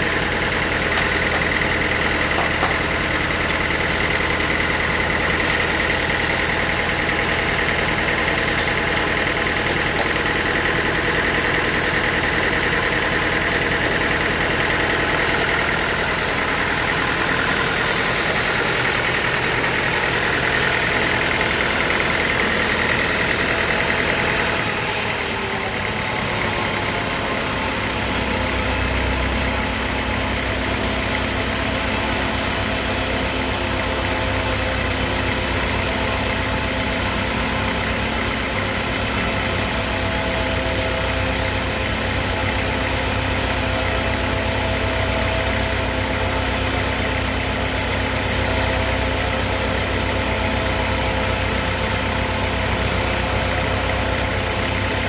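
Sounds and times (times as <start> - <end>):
high machine whine: 0.0 - 55.0
sawmill machinery droning: 0.0 - 55.0.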